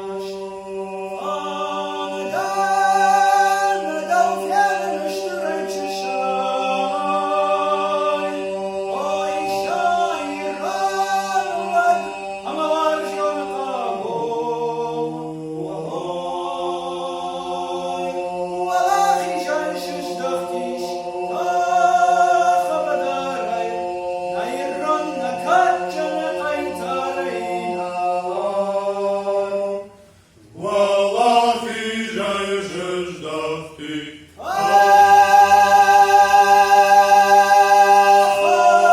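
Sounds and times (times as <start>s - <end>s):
male choral drone: 0.0s - 38.9s.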